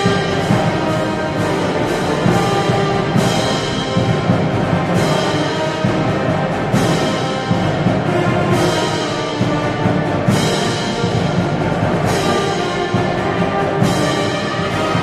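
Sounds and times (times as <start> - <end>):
brass band playing slow piece: 0.0 - 15.0.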